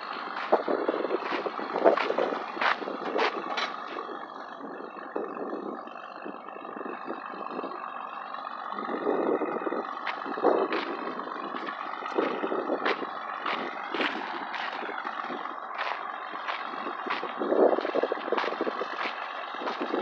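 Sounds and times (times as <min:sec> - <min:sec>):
bulldozer engine running: 0:00.0 - 0:20.0
pickup truck driving: 0:00.0 - 0:20.0.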